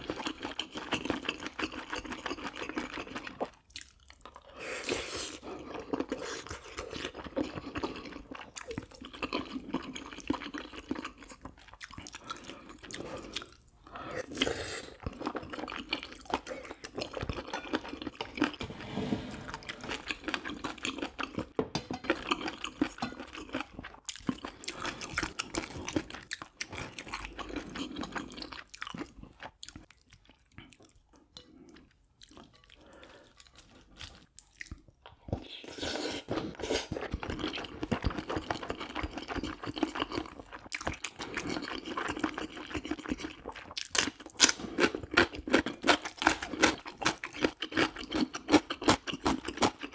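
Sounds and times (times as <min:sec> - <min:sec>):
person chewing crunchy food: 0:00.0 - 0:18.7, 0:19.3 - 0:49.9.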